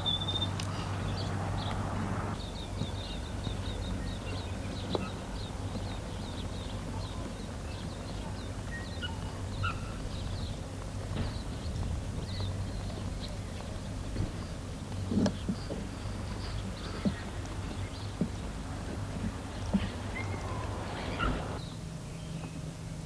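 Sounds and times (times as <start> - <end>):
birds chirping: 0.0 - 22.7.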